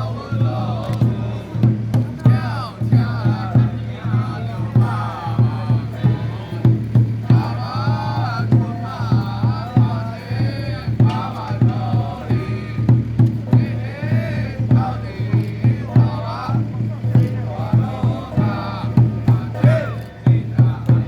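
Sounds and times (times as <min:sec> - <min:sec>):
percussion beat: 0:00.0 - 0:21.0
ritual chanting: 0:00.0 - 0:21.0.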